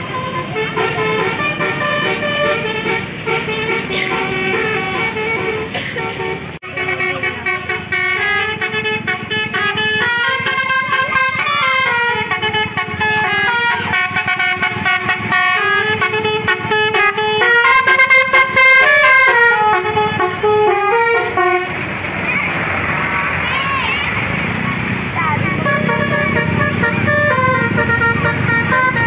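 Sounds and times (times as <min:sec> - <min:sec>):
bus horn playing melody: 0:00.0 - 0:22.0, 0:25.4 - 0:29.0.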